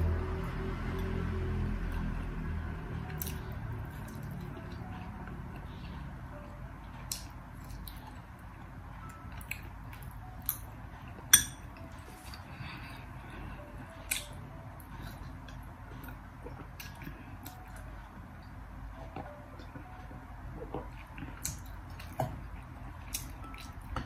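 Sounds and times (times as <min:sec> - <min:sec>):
background music: 0:00.0 - 0:16.1, 0:17.1 - 0:24.0.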